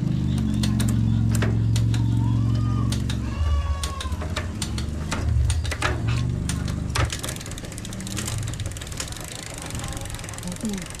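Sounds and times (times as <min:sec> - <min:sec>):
bicycle chain and derailleur ticking: 0:00.0 - 0:11.0
low motor hum: 0:00.0 - 0:11.0.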